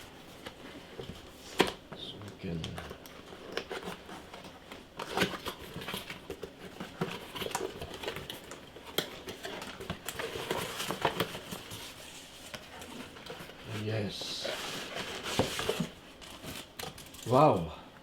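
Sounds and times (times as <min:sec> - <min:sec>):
plastic and cardboard rustling: 0:00.0 - 0:17.6.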